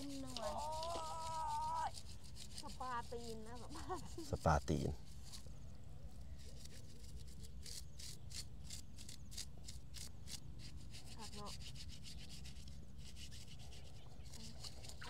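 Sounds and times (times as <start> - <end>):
scrub brush scraping wet skin: 0.0 - 5.5, 6.4 - 15.0.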